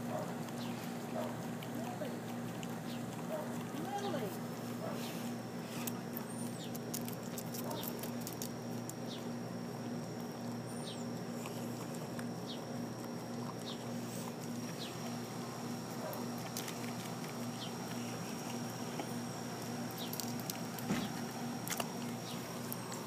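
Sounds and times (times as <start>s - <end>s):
dog licking and chewing: 0.0s - 23.0s
steady hum: 0.0s - 23.0s.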